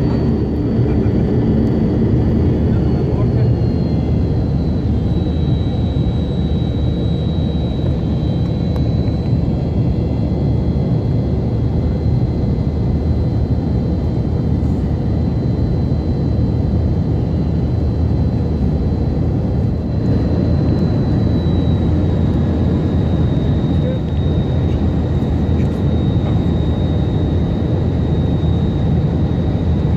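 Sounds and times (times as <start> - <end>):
jet engines rumbling: 0.0 - 29.9.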